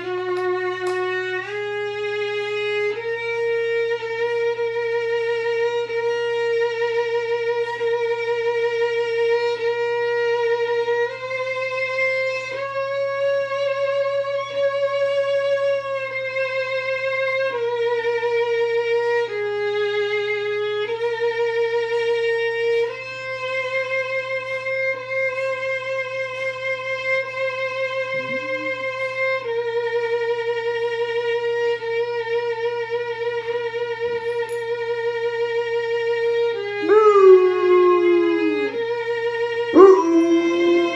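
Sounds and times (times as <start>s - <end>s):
solo violin slow melody: 0.0s - 40.9s.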